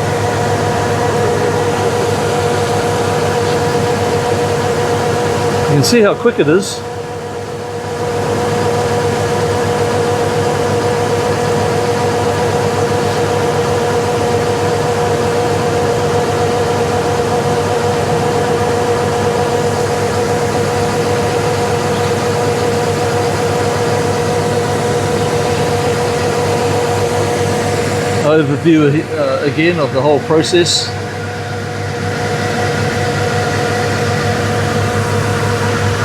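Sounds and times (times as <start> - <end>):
combine harvester engine hum: 0.0 - 36.0
steady machine whine: 0.0 - 36.0.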